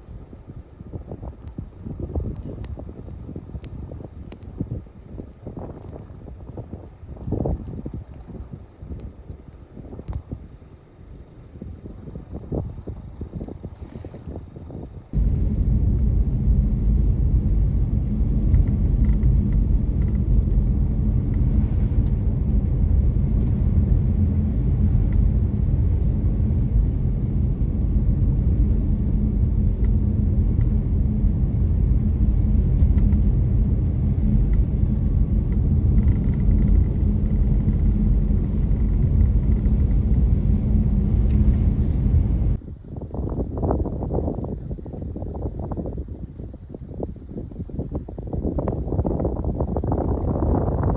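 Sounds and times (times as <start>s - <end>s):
car driving road and engine noise: 0.0s - 42.9s.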